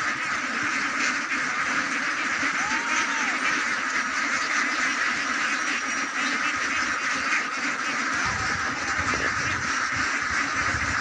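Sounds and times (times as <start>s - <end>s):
flock of ducks quacking: 0.0s - 11.0s.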